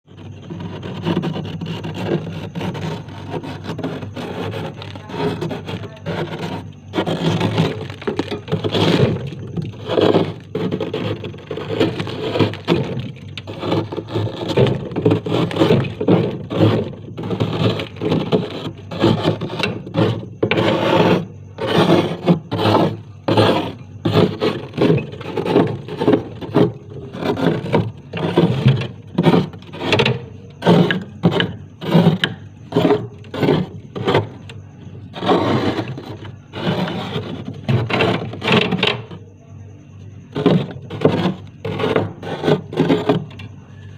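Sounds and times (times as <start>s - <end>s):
ice scraping in freezer: 0.0s - 43.9s.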